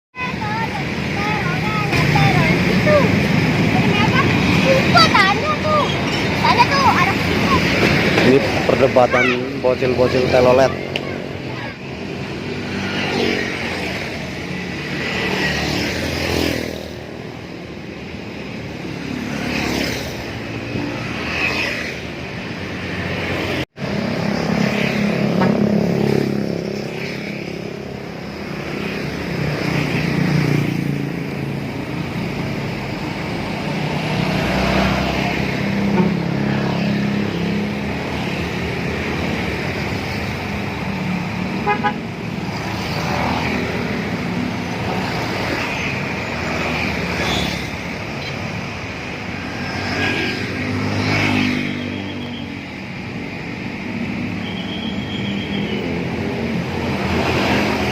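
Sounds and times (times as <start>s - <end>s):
buses and traffic passing: 0.2s - 57.9s.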